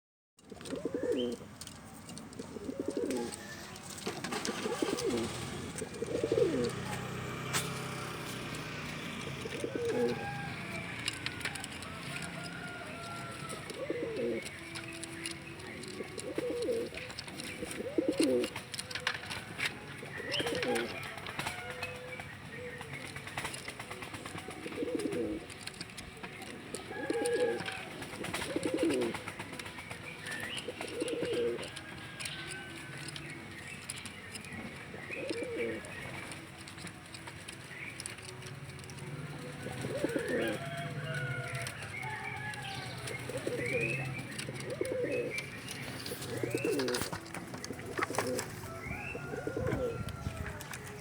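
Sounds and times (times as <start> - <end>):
pigeon cooing: 0.4 - 51.0.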